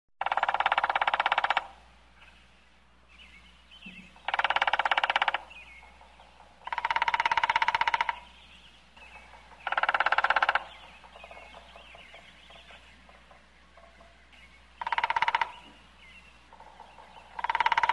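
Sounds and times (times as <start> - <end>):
woodpecker drumming: 0.2 - 2.4, 3.4 - 17.9
faint bird chirps: 0.4 - 17.9.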